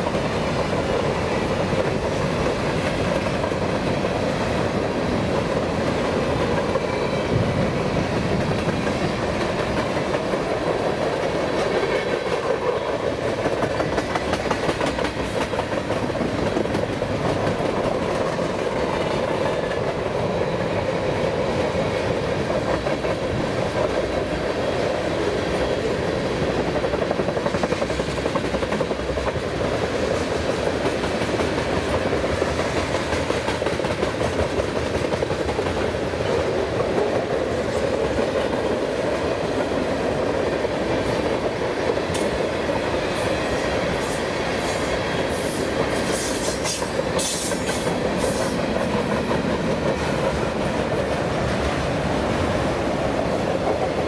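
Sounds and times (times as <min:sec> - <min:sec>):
freight train wheels clicking over joints: 0:00.0 - 0:54.0.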